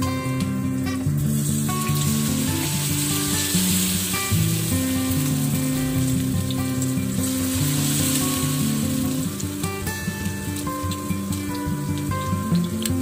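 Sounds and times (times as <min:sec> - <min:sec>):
acoustic guitar music: 0:00.0 - 0:13.0
batter sizzling in oil: 0:00.0 - 0:13.0.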